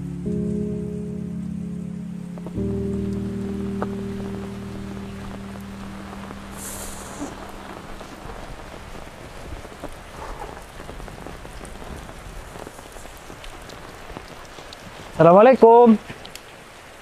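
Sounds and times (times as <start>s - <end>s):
rain falling on wet ground: 0.0s - 17.0s.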